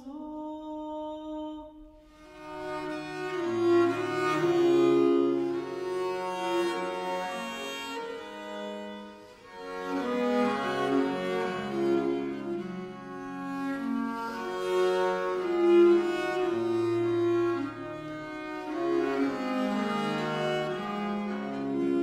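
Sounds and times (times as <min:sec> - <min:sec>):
early music ensemble playing: 0:02.3 - 0:22.0.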